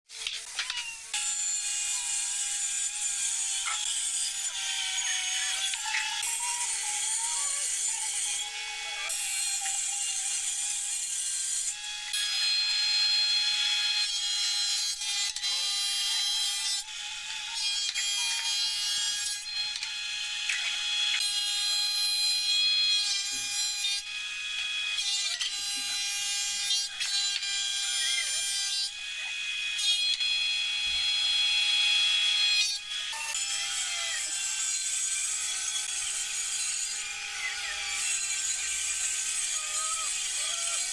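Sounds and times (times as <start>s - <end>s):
electric power tool whining: 0.1s - 40.9s.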